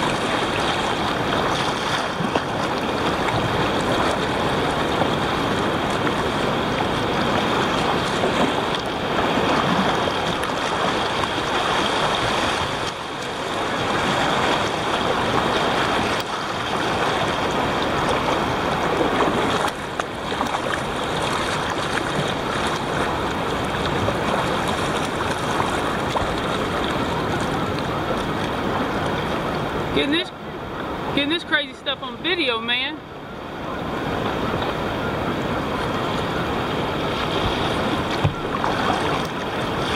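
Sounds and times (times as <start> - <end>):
river water rushing: 0.0 - 39.9
water splashing against kayak: 0.0 - 39.9.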